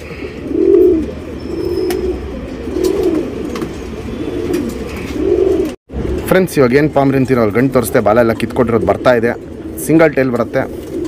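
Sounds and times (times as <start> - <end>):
pigeon cooing: 0.0 - 5.8, 7.7 - 11.0.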